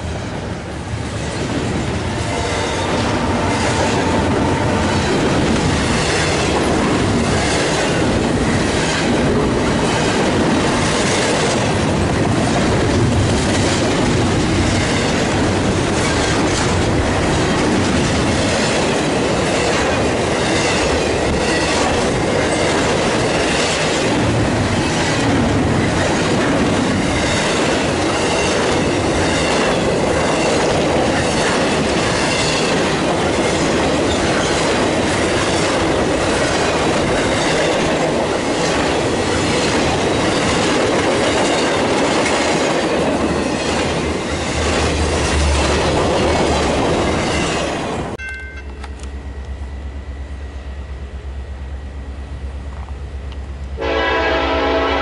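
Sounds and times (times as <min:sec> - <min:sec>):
freight train wheels rumbling on rail: 0:00.0 - 0:55.0
train trucks clattering: 0:01.4 - 0:49.4.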